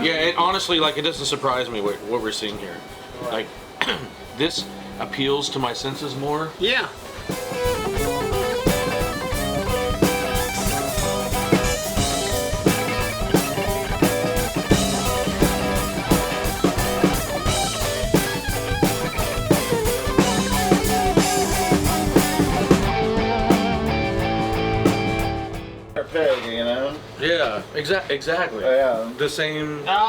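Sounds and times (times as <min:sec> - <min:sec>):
band playing rock music: 0:00.0 - 0:26.2.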